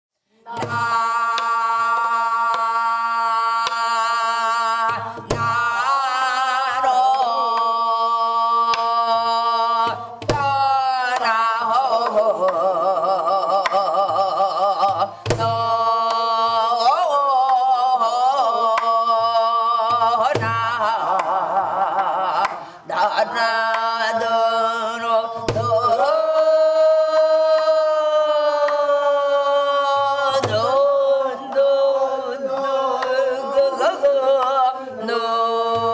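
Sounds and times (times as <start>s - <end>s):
woman singing with heavy vibrato: 0.4s - 35.9s.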